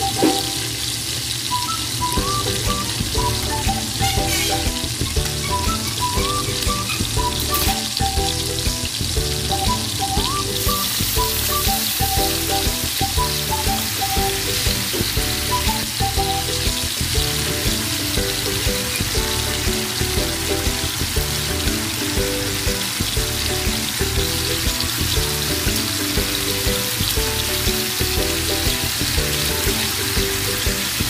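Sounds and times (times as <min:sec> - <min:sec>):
background music: 0:00.0 - 0:00.9, 0:01.5 - 0:31.0
dumplings sizzling in a pan: 0:00.0 - 0:31.0
water bubbling and boiling: 0:00.0 - 0:31.0.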